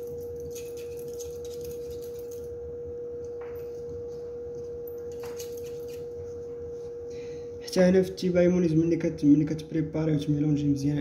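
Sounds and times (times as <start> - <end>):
steady equipment hum: 0.0 - 11.0.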